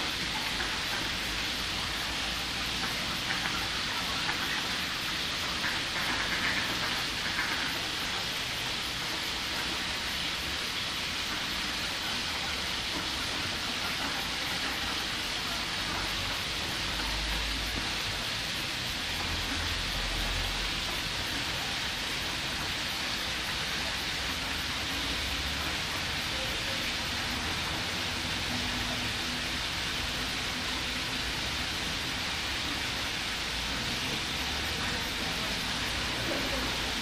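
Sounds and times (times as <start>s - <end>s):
water hissing: 0.0s - 37.0s.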